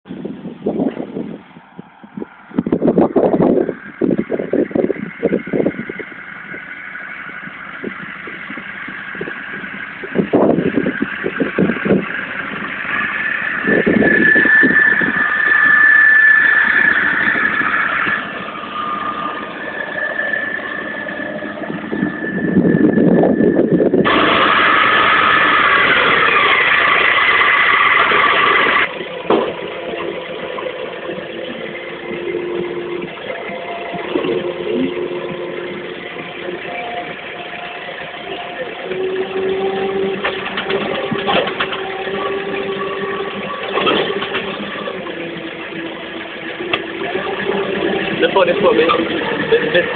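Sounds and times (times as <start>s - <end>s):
tractor diesel engine running: 0.0s - 49.9s
high steady whine: 0.1s - 49.9s.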